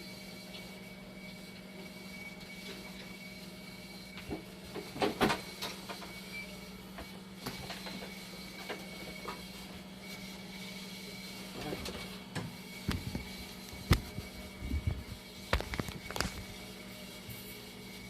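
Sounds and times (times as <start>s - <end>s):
dialysis machine humming: 0.0s - 18.0s.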